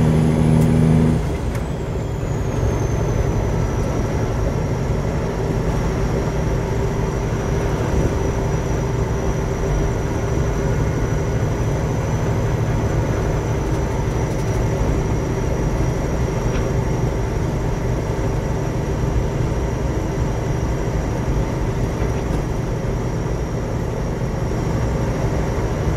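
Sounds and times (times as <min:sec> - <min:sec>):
truck diesel engine rumbling: 0:00.0 - 0:25.9.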